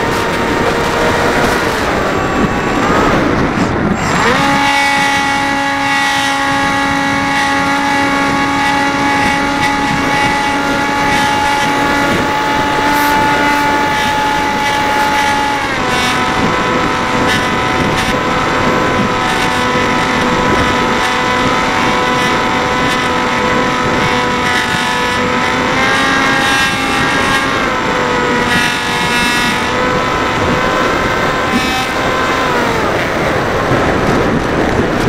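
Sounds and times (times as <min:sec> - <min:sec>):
electric motor and propeller whining: 0:00.0 - 0:35.0
wind noise: 0:00.0 - 0:35.0.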